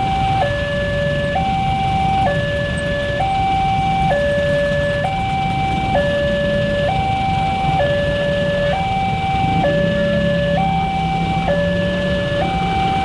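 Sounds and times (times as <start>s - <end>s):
low traffic rumble: 0.0s - 13.0s
two-tone level crossing siren: 0.0s - 13.0s.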